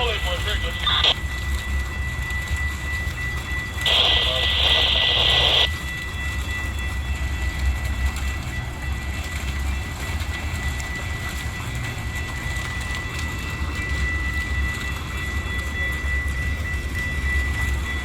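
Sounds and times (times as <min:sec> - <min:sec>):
train rumbling by: 0:00.0 - 0:18.0.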